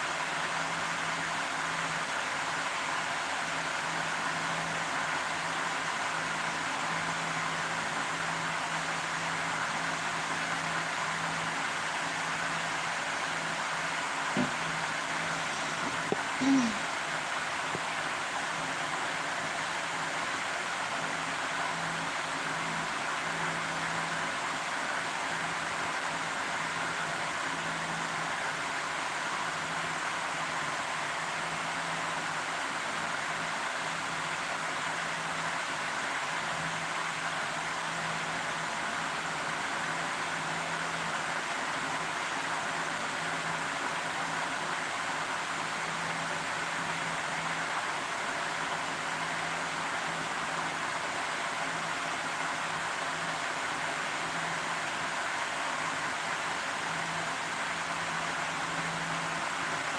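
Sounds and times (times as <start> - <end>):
kitchen background hiss: 0.0 - 59.9
steady rushing noise: 0.0 - 59.9.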